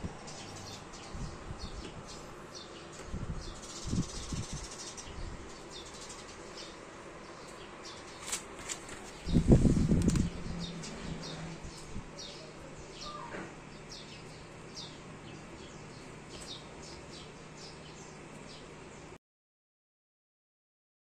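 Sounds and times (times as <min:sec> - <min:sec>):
small birds chirping: 0:00.0 - 0:19.2.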